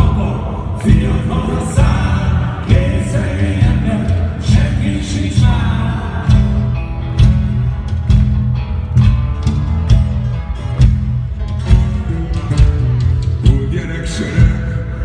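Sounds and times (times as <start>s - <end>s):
bass: 0.0s - 15.0s
guitar: 0.0s - 15.0s
live blues band: 0.0s - 15.0s.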